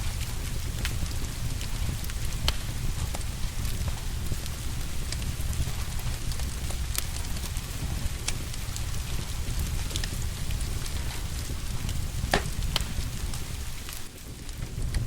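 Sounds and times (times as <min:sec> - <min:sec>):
rain hissing and pattering: 0:00.0 - 0:15.0
wood fire crackling and popping: 0:00.0 - 0:15.0.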